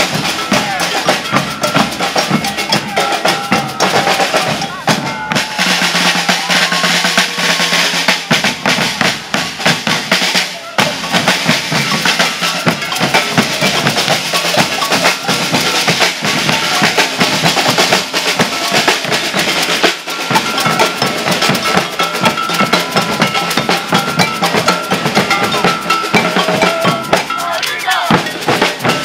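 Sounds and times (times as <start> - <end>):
bass drums: 0.0 - 29.0
clanking cowbell: 0.0 - 29.0
rattling snare drums: 0.0 - 29.0.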